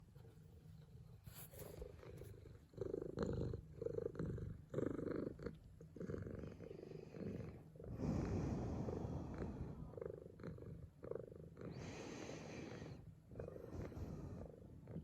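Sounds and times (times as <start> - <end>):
cat purring: 1.6 - 15.0.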